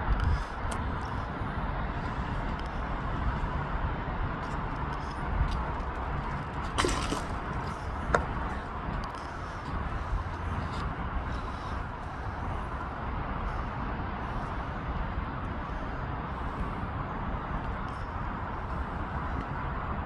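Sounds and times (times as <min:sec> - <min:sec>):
station platform rumble and hiss: 0:00.0 - 0:20.0.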